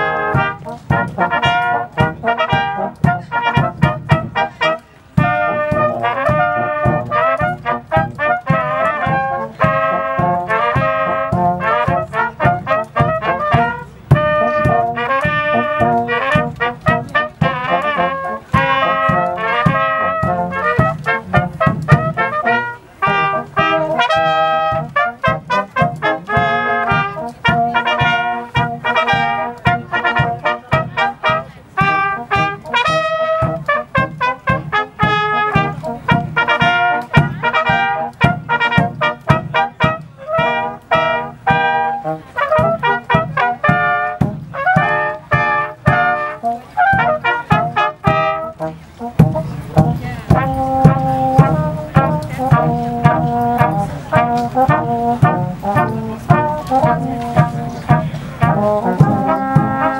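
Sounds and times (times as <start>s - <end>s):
brass band playing: 0.0s - 59.9s
cornets playing melody: 0.0s - 59.9s
tuba bass beat: 0.0s - 59.9s.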